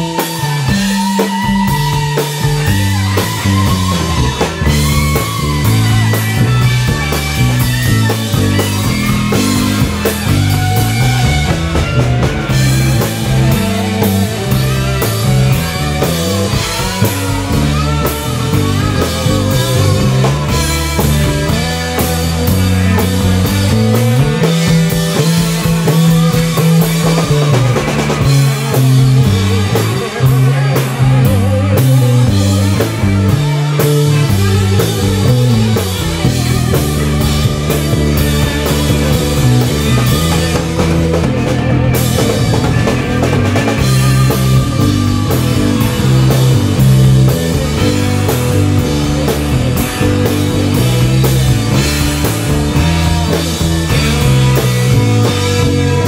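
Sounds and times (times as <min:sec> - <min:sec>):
bass line: 0:00.0 - 0:56.0
drum kit: 0:00.0 - 0:56.0
electric guitars: 0:00.0 - 0:56.0.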